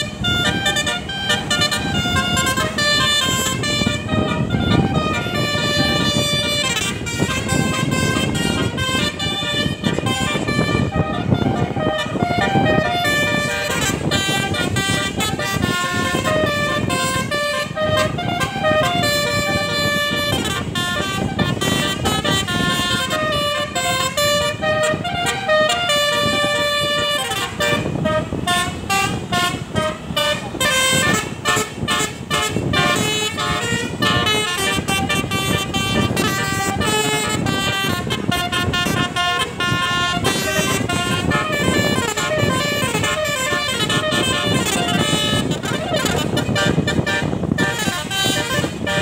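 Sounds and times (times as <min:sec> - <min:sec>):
bus horn playing a tune: 0:00.0 - 0:49.0
bus running on road: 0:00.0 - 0:49.0.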